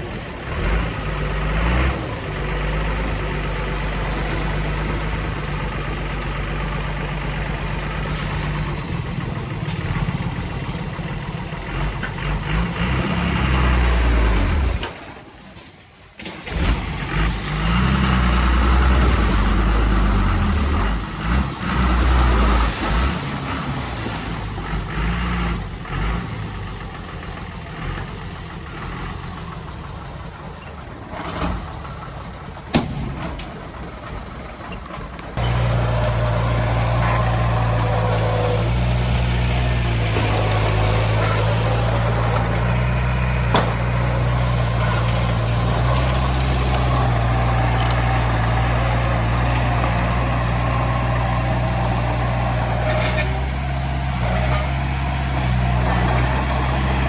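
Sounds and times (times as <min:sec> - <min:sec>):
heavy diesel engine running: 0:00.0 - 0:32.7, 0:33.3 - 0:57.0.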